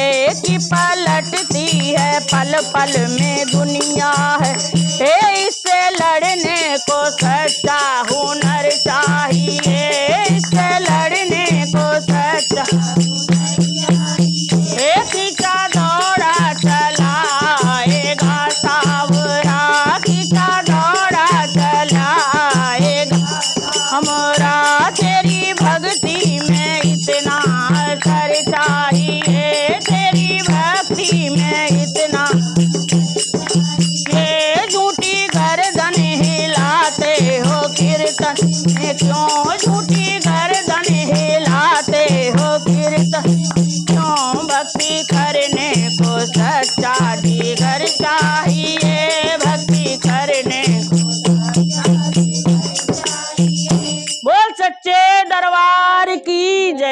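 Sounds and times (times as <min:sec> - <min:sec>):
barrel drum beat: 0:00.0 - 0:05.4, 0:06.0 - 0:54.2
women singing devotional song: 0:00.0 - 0:56.9.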